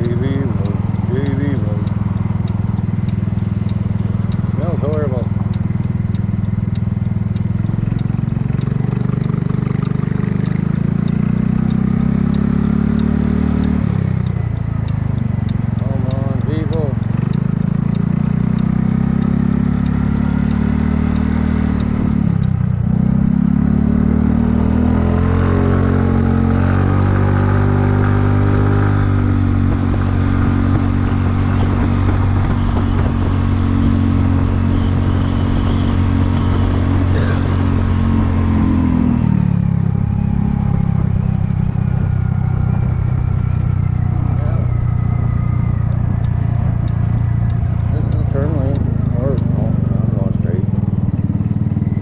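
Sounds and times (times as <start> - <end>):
scooter engine running: 0.0 - 23.1, 29.1 - 52.0.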